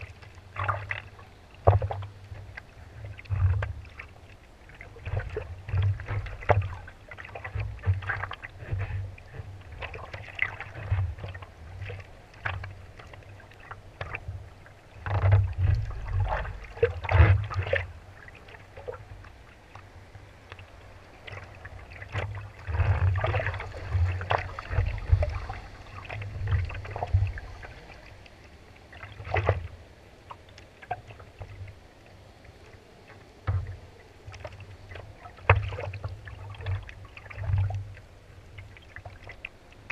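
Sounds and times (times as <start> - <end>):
water slapping against board: 0.0 - 39.9.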